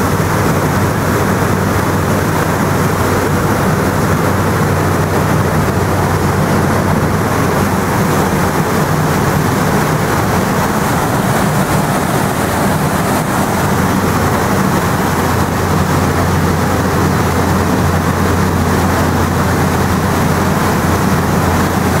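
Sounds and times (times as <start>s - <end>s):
boat engine droning: 0.0s - 22.0s
churning water: 0.0s - 22.0s
wind: 0.0s - 22.0s.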